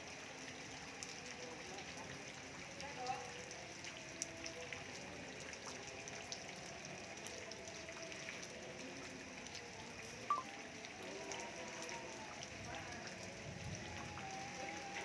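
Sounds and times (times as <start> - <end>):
rain pattering on wet ground: 0.0 - 15.0.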